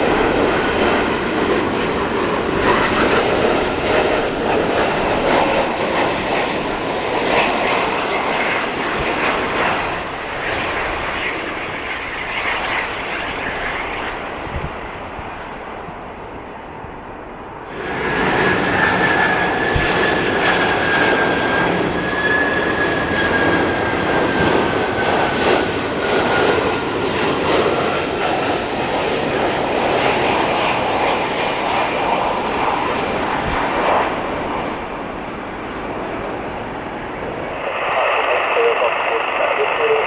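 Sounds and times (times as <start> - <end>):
jet airliner engine whine: 0.0 - 40.0.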